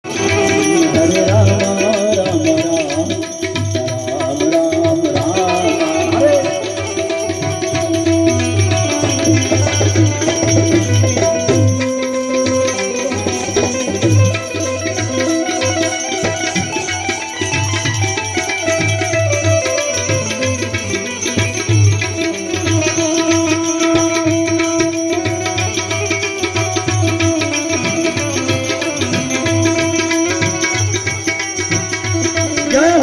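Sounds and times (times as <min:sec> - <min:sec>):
hand-drum beat: 0:00.0 - 0:33.0
wavering instrumental melody: 0:00.0 - 0:33.0.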